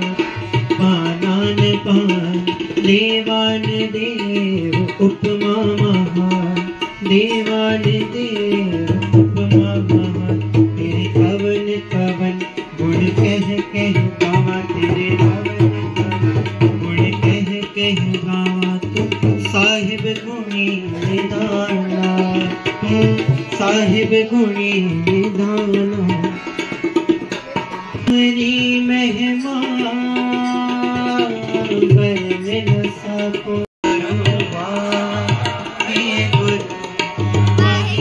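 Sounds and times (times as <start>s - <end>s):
harmonium: 0.0s - 38.0s
tabla drumming: 0.0s - 38.0s.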